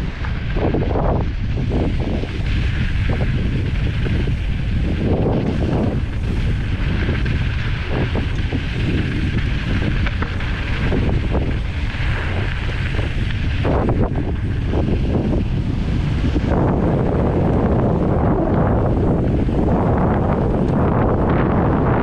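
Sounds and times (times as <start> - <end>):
tyres crunching over gravel: 0.0 - 21.8
bike rattling over bumps: 0.0 - 22.0
wind on microphone: 0.0 - 22.0.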